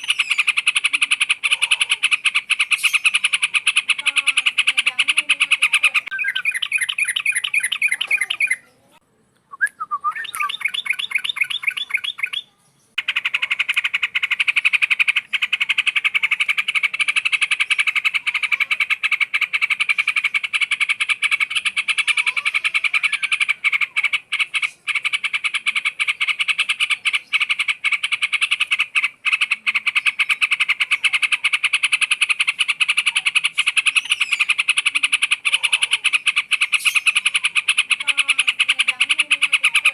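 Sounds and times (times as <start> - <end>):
bird calling in chattering trill: 0.0 - 39.9.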